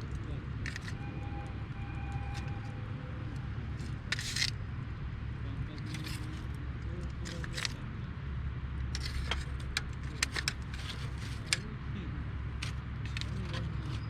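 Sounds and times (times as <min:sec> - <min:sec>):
low fire rumble: 0:00.0 - 0:14.0.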